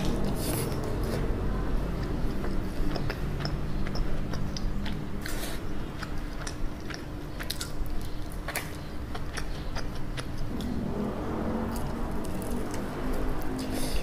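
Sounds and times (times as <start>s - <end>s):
crunchy chewing: 0.0s - 10.8s, 11.6s - 14.0s.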